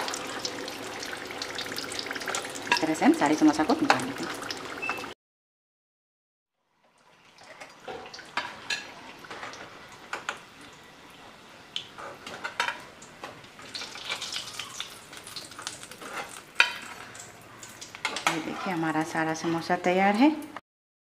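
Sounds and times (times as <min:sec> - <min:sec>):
oil sizzling: 0:00.0 - 0:05.2, 0:06.6 - 0:19.6.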